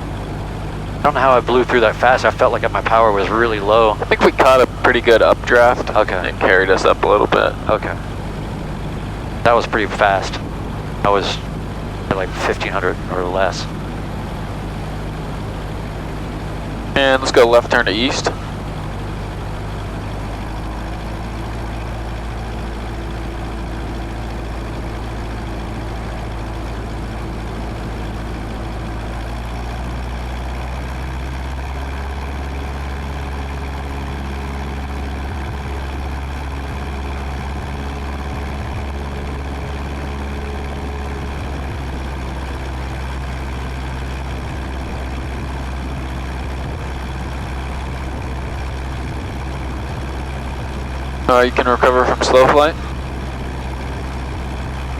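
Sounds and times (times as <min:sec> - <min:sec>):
light aircraft engine droning: 0:00.0 - 0:54.9.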